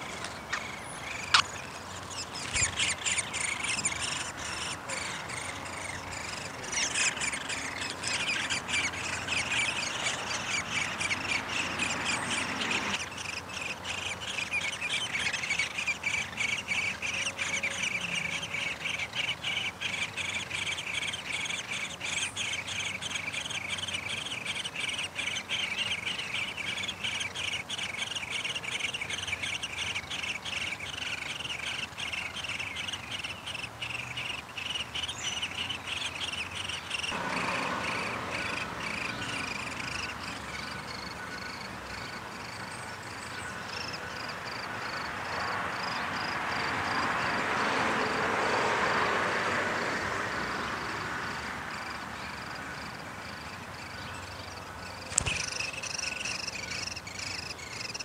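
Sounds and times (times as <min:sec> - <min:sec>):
nestlings chirping: 0:00.0 - 0:47.0, 0:53.2 - 0:58.0.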